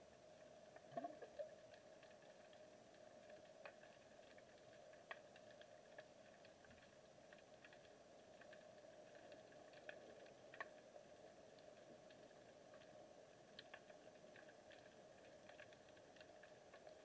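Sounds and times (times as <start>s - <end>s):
faint underwater hum: 0.0s - 17.0s
faint clicks: 0.3s - 17.0s.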